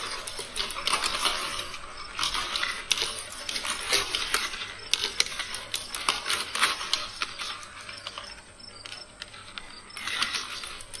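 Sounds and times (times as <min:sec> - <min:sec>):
marbles rattling on plastic tracks: 0:00.0 - 0:11.0.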